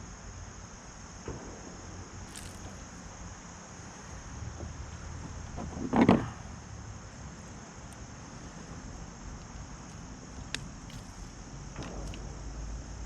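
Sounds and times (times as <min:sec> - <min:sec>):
faint high-pitched insect drone: 0:00.0 - 0:13.0.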